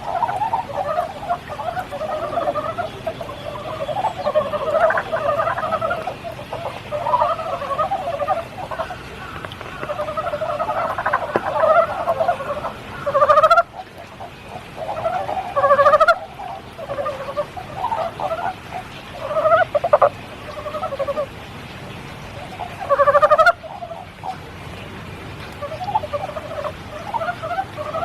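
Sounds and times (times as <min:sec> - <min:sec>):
frogs croaking in chorus: 0:00.0 - 0:28.0
rain patter: 0:00.0 - 0:28.0.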